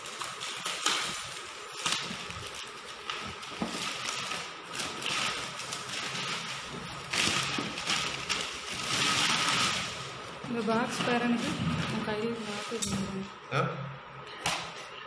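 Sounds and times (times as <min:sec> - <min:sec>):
paper rustling and crinkling: 0:00.0 - 0:12.8.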